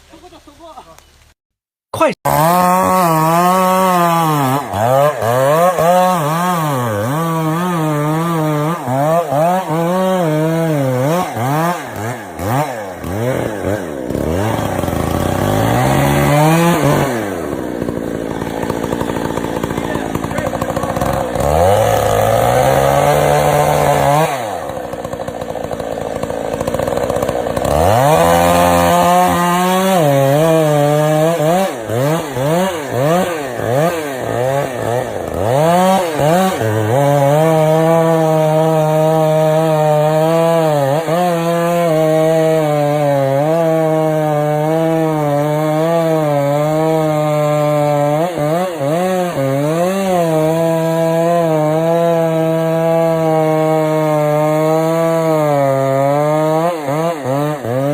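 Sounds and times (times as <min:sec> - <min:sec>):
chainsaw cutting wood: 0:02.0 - 0:57.9.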